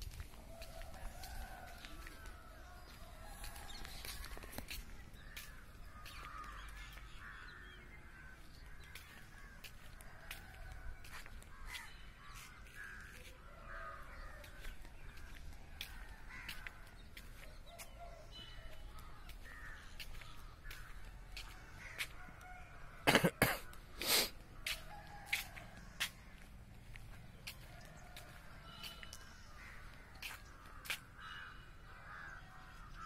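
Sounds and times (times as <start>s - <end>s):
faint outdoor background: 0.0s - 33.0s
crows cawing: 0.5s - 26.1s, 26.9s - 33.0s.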